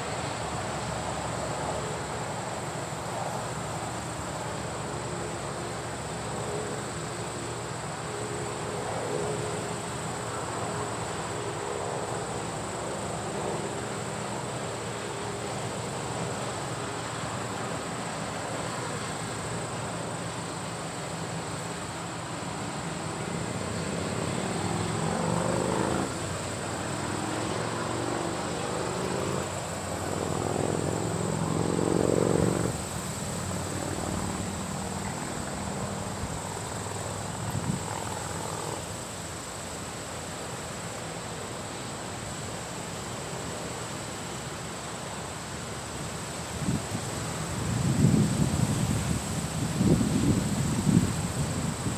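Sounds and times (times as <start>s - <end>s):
combine harvester drone: 0.0s - 51.9s.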